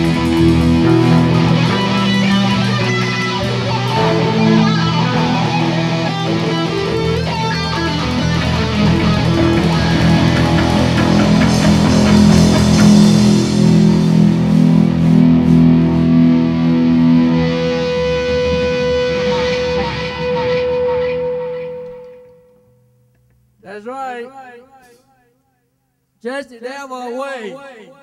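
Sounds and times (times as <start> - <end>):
rock band music: 0.0 - 22.8
held guitar note ringing: 0.0 - 22.9.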